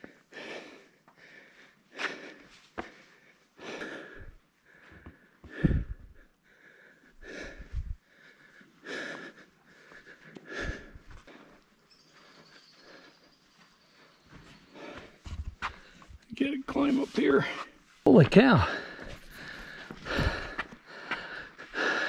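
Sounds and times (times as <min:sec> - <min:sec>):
person breathing heavily: 0:00.0 - 0:16.2, 0:18.5 - 0:22.0.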